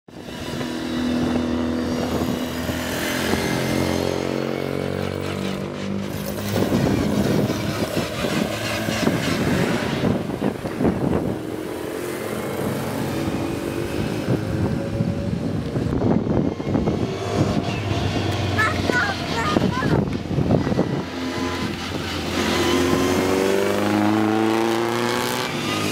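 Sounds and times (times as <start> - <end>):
racing car engines: 0.1 - 25.9.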